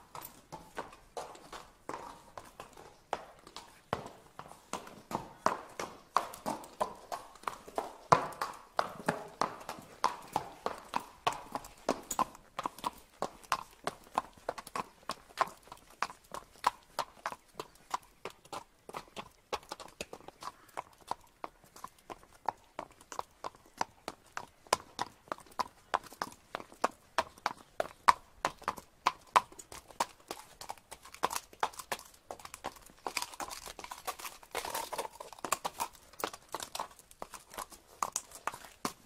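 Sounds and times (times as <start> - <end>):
horse hooves on pavement: 0.0 - 39.0.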